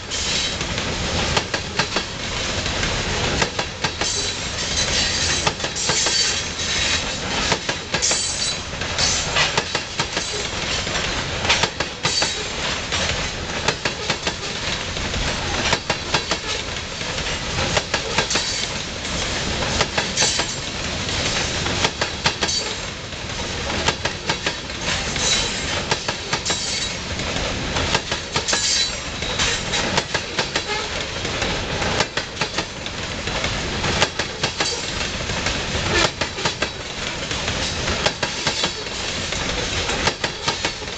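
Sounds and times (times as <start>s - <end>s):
train rolling noise: 0.0s - 40.9s
train wheels clickety-clack: 0.0s - 40.9s.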